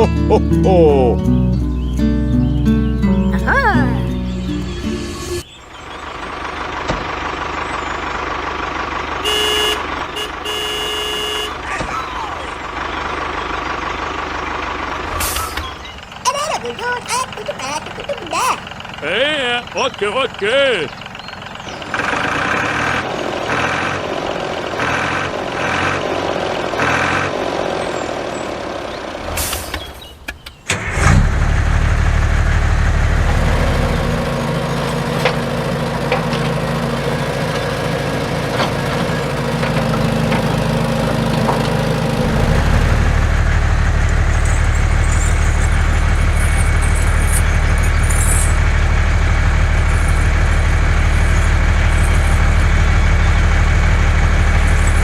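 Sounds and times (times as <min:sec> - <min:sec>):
small engine running: 0:04.4 - 0:29.5, 0:30.8 - 0:55.0.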